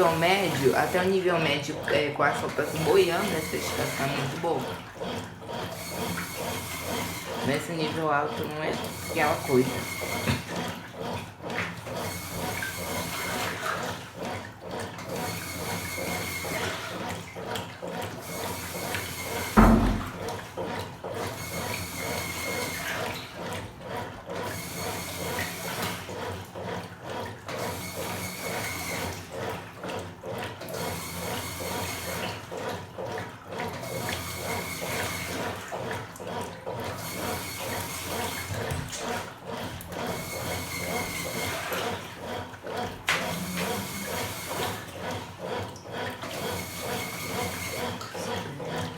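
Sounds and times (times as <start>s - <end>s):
washing machine water sloshing: 0.0s - 48.9s.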